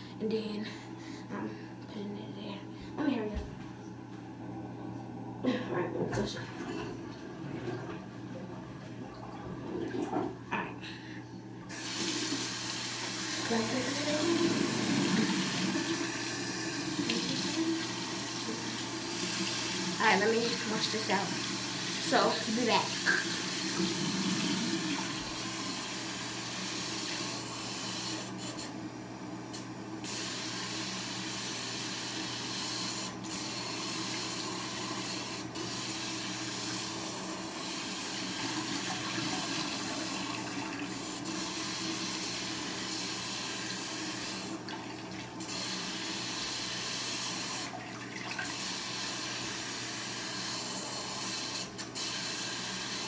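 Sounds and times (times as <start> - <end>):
tap water running: 6.0 - 10.5, 11.6 - 53.0.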